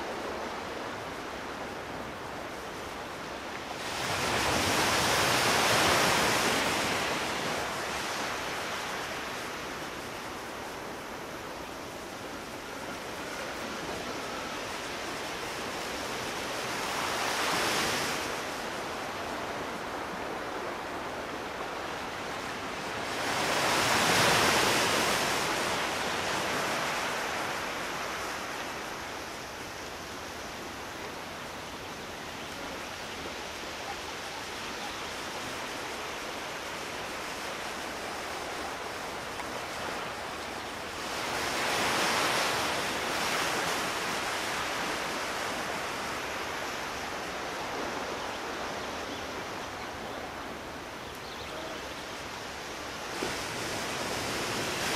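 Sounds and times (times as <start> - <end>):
ocean surf washing ashore: 0.0 - 54.9
waves breaking: 0.0 - 54.9.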